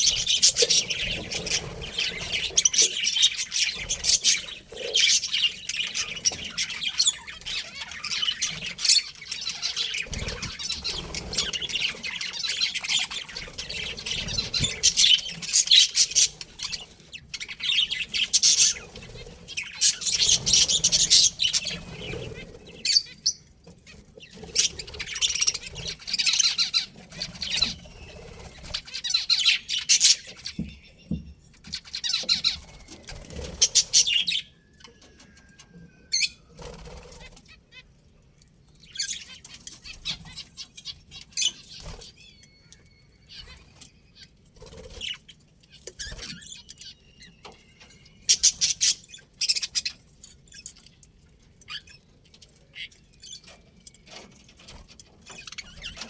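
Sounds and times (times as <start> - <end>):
budgerigars chirping: 0.0 - 37.9, 38.8 - 56.0.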